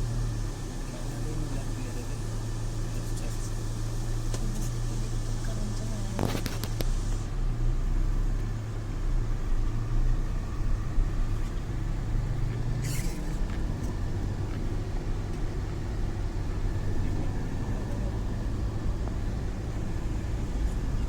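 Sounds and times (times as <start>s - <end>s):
motor vehicle engine rumbling: 0.0s - 21.0s.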